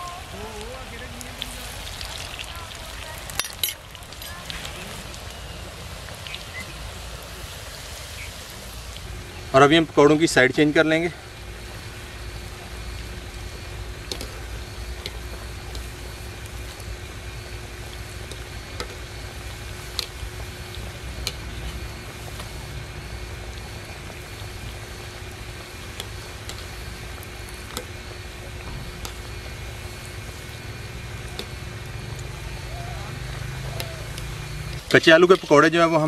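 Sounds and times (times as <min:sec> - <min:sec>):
food sizzling in hot oil: 0:00.0 - 0:36.0
oil popping: 0:00.0 - 0:36.0.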